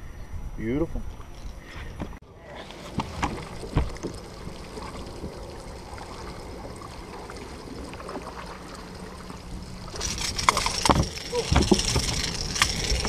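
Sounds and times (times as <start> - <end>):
faint steady hum: 0.0 - 13.0
small waves lapping against hull: 1.2 - 13.0.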